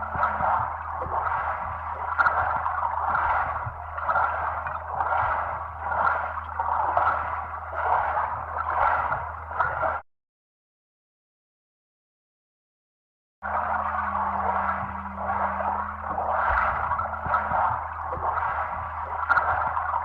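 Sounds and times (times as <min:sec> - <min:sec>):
low steady hum: 0:00.0 - 0:10.0, 0:13.4 - 0:20.0
underwater water noise: 0:00.0 - 0:10.0, 0:13.4 - 0:20.0.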